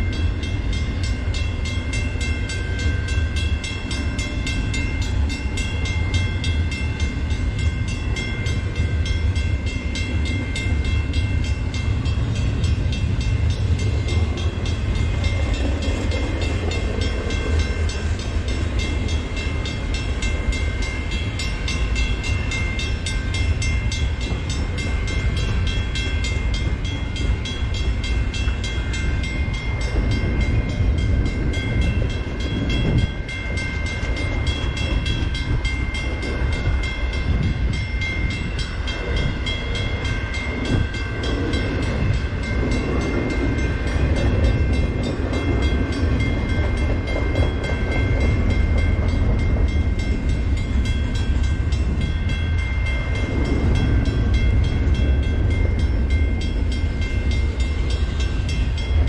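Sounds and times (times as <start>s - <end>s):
crossing warning bell ringing: 0.0s - 59.0s
train rumbling and rattling on rails: 0.0s - 59.0s.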